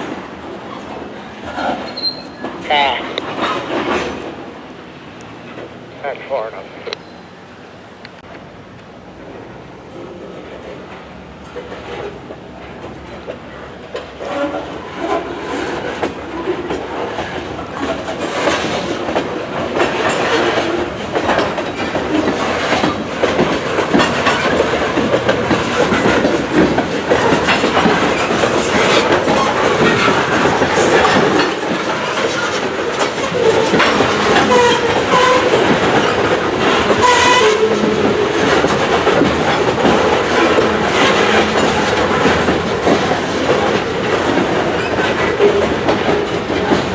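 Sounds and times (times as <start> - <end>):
wheels clicking over rail joints: 0.0 - 4.6, 8.0 - 46.9
freight train rolling: 0.0 - 46.9.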